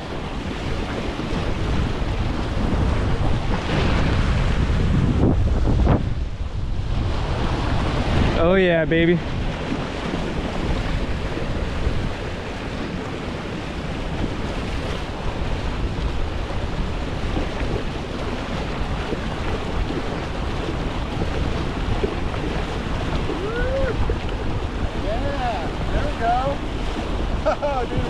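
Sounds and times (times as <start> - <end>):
water rushing past boat hulls: 0.0 - 28.0
wind buffeting microphone: 0.0 - 28.0.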